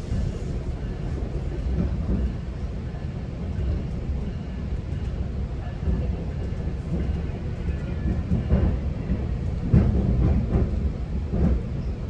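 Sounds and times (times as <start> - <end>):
train clunks: 0.0 - 12.0
train rumbling on rails: 0.0 - 12.0.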